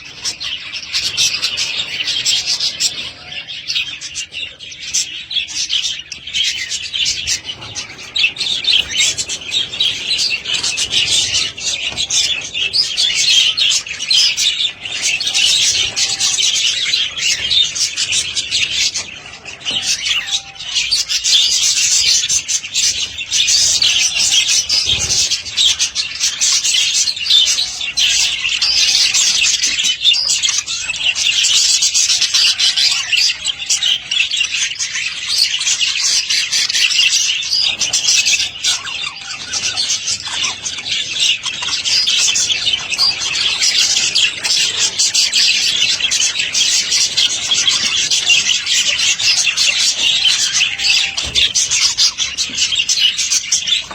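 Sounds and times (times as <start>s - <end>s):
budgerigars chattering: 0.0s - 53.9s.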